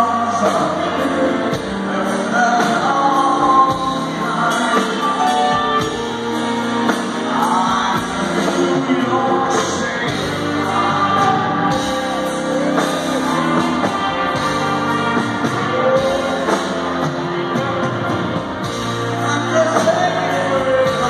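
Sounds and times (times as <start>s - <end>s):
live band playing: 0.0s - 21.0s
person singing: 0.0s - 21.0s.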